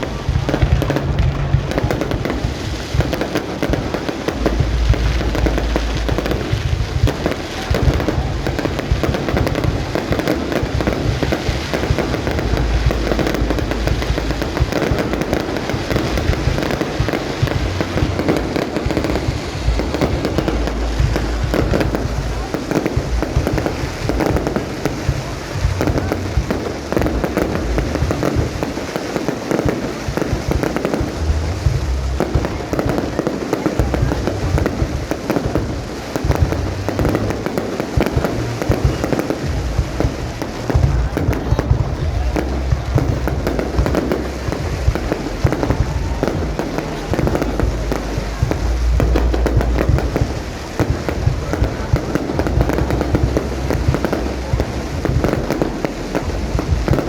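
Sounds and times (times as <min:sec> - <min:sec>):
fireworks booming and crackling: 0:00.0 - 0:57.0.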